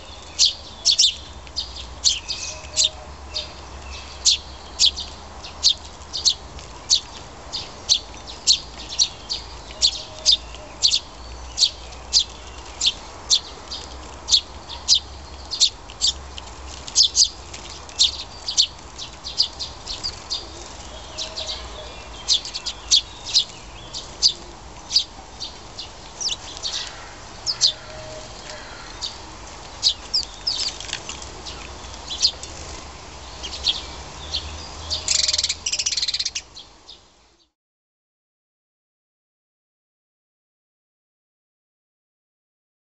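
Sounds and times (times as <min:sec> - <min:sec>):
sparrows chirping: 0:00.0 - 0:37.5.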